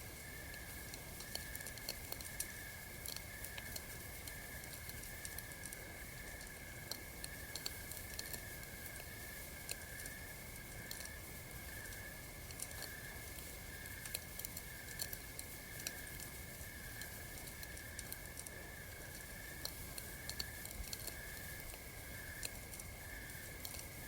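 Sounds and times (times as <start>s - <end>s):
night insects chirring: 0.0s - 24.0s.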